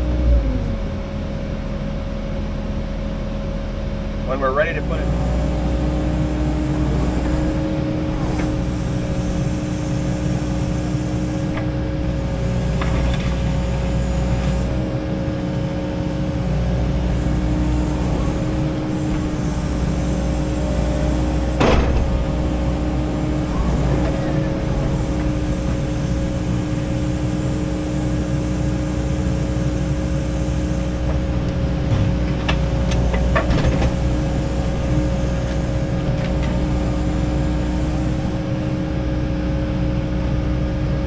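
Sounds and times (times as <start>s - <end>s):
excavator engine drone with whine: 0.0s - 41.0s.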